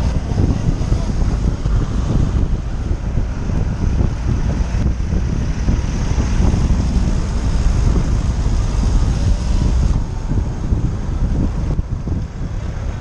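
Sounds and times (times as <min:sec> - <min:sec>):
motorcycle engine rumbling: 0:00.0 - 0:13.0
traffic noise: 0:00.0 - 0:13.0
wind on microphone: 0:00.0 - 0:13.0.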